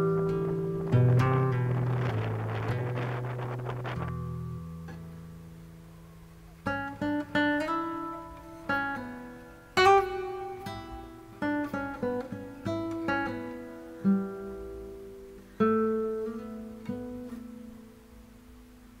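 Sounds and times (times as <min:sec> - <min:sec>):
acoustic guitar plucking: 0:00.0 - 0:19.0.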